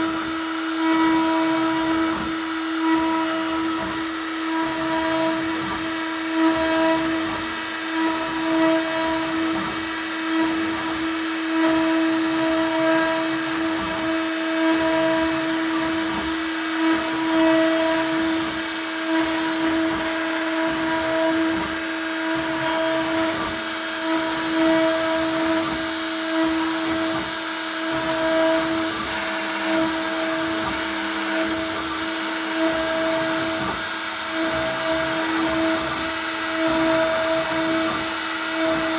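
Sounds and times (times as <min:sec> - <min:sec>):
bit carving wood: 0:00.0 - 0:38.9
router spindle whining: 0:00.0 - 0:38.9.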